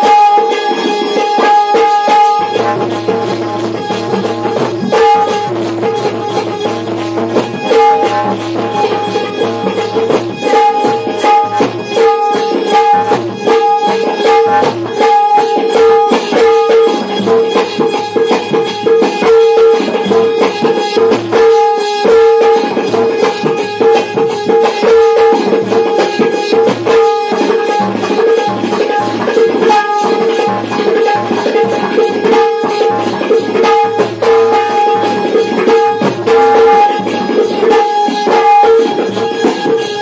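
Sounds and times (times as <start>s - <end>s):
hand drums playing fast rhythm: 0.0s - 40.0s.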